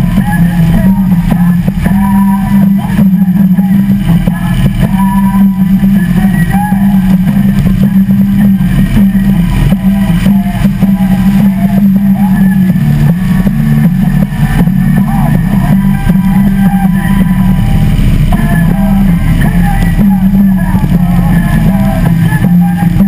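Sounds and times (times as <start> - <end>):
motorcycle engines idling: 0.0 - 23.0.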